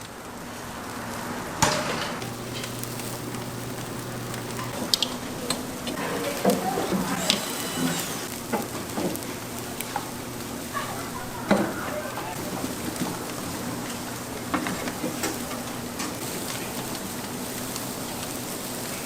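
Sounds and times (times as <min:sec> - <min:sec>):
stew sizzling in a pot: 0:02.2 - 0:19.0.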